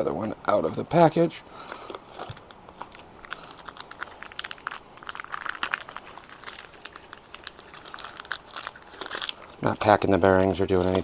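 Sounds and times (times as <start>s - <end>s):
packaging crinkling: 1.6s - 11.0s.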